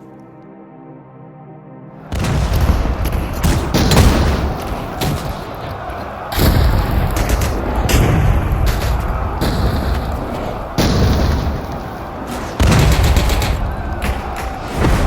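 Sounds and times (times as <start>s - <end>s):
artillery booms: 2.1s - 15.0s
dense gunfire: 2.1s - 15.0s.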